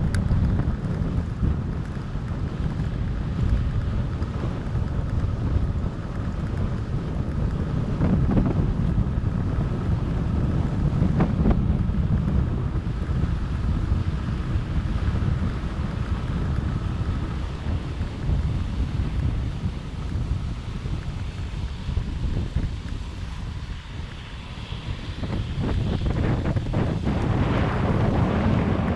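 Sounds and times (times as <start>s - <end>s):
bike tyres rolling rumble: 0.0s - 28.9s
wind buffeting microphone: 0.0s - 28.9s.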